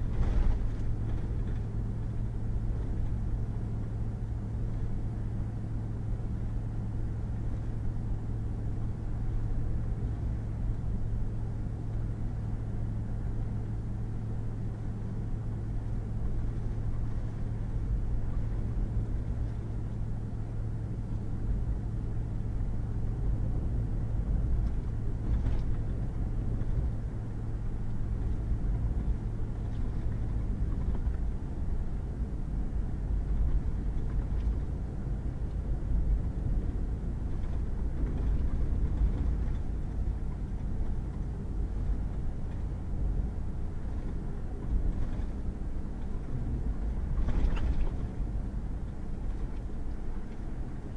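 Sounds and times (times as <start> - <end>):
truck engine drone: 0.0 - 50.9.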